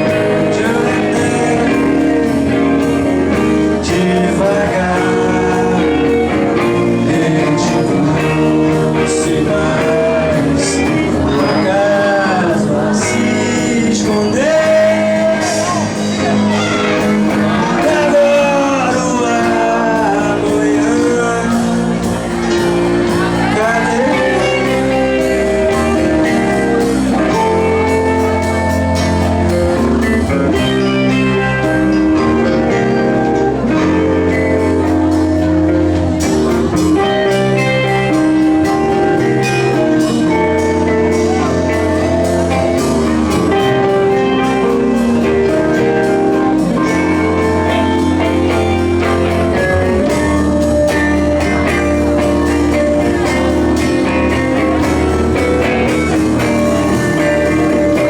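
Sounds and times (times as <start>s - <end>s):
drum kit beat: 0.0s - 58.0s
guitar: 0.0s - 58.0s
held bass notes: 0.0s - 58.0s.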